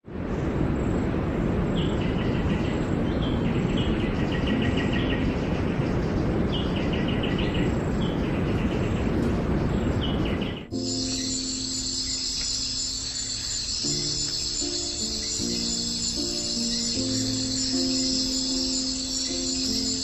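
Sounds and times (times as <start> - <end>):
steady rushing noise: 0.0 - 20.0
small bird chirping: 1.8 - 20.0.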